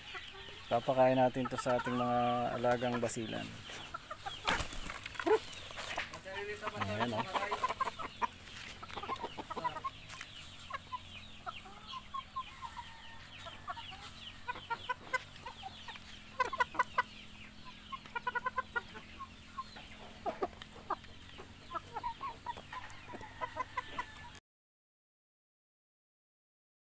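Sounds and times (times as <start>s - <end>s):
chickens clucking: 0.0s - 24.4s.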